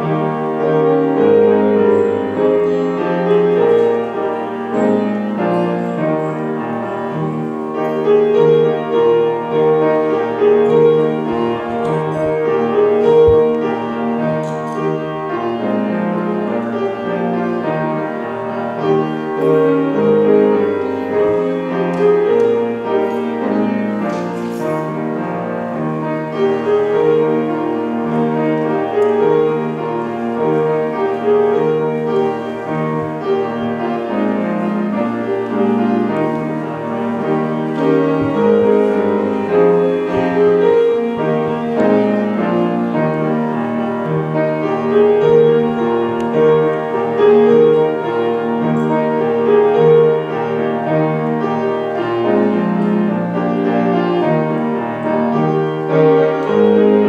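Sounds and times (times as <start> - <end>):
classical piano music: 0.0 - 57.0.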